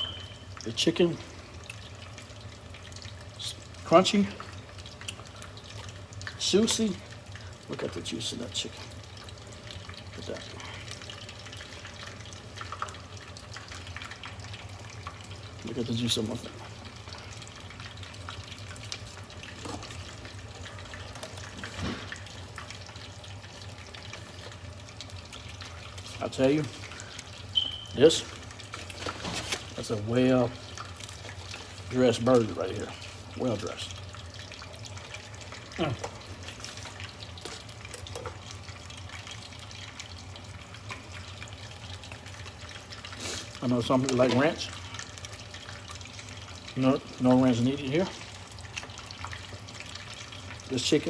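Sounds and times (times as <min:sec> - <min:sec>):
low steady hum: 0:00.0 - 0:50.8
oil sizzling in deep fryer: 0:00.0 - 0:51.0.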